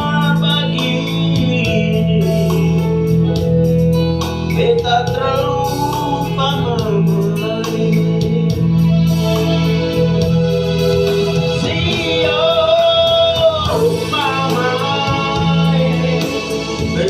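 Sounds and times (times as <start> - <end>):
person singing: 0.0 - 3.6, 4.5 - 17.0
electronic organ accompaniment: 0.0 - 17.0.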